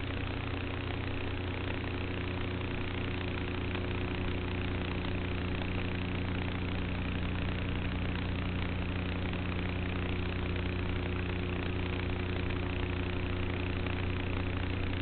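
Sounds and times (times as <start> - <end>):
electric motor and propeller hum: 0.0 - 15.0.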